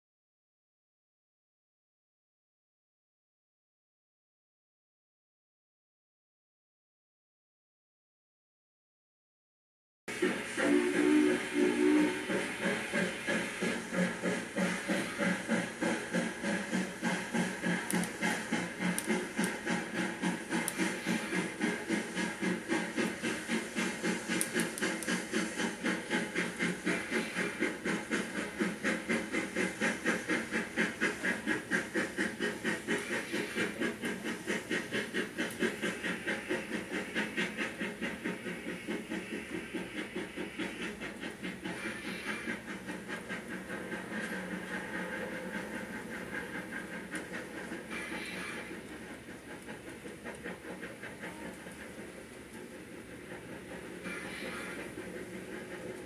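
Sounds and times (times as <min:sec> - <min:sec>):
steam locomotive chuffing: 0:10.1 - 0:56.0.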